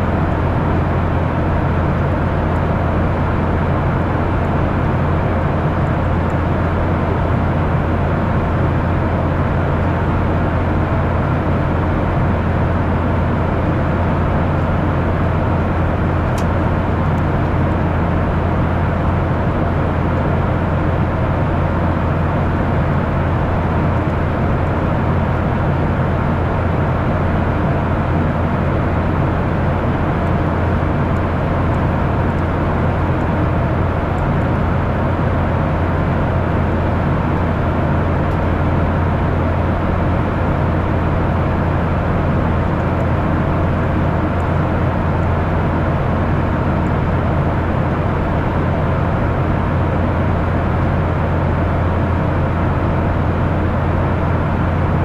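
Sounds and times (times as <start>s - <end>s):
airliner cabin engine and airflow rush: 0.0s - 55.0s
low cabin hum: 0.0s - 55.0s.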